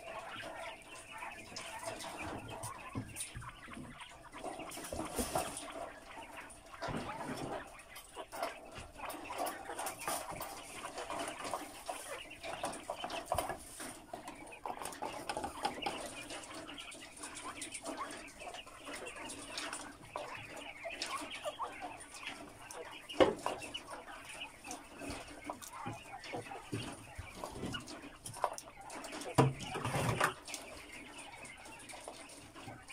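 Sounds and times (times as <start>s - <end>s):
birds pecking at metal trough: 0.0s - 32.9s
quail chirping and twittering: 0.0s - 32.9s.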